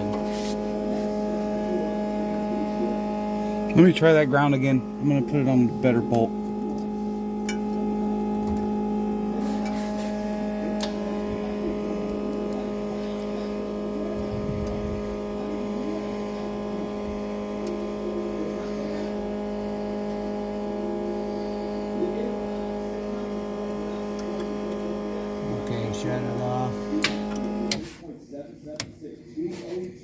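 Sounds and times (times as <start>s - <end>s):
electric motor humming: 0.0s - 28.0s.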